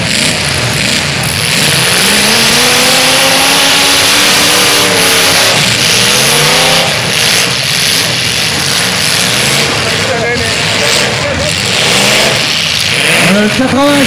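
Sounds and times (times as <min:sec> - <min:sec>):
car engines revving hard: 0:00.0 - 0:14.0
loud rushing noise: 0:00.0 - 0:14.0.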